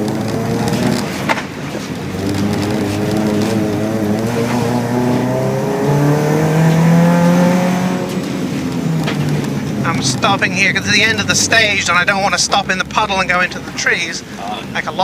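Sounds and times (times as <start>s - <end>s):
car engine running hard: 0.0s - 15.0s.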